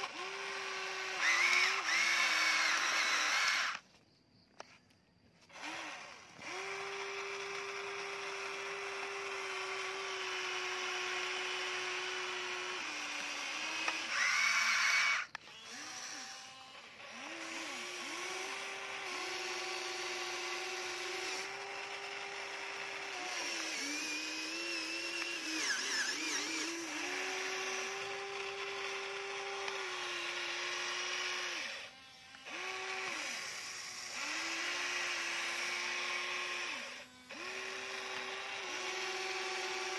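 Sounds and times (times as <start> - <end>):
small electric motors whining: 0.0 - 39.9.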